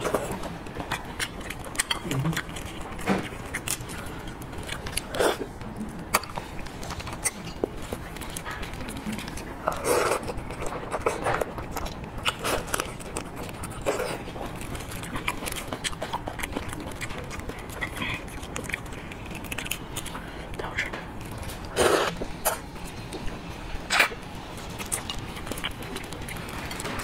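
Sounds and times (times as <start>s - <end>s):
wet chewing and smacking: 0.0s - 27.0s.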